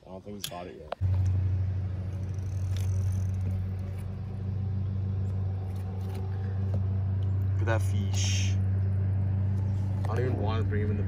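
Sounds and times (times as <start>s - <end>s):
boat motor humming: 1.0s - 11.0s.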